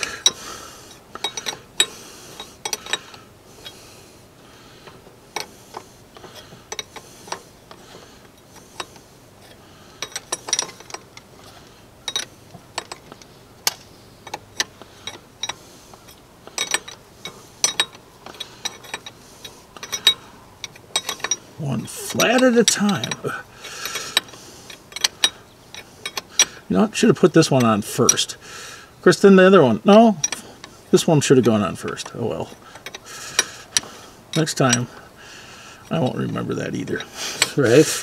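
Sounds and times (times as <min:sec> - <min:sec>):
wrenches clicking on metal fittings: 0:00.0 - 0:03.8, 0:04.8 - 0:28.4, 0:30.1 - 0:35.1, 0:35.8 - 0:38.0.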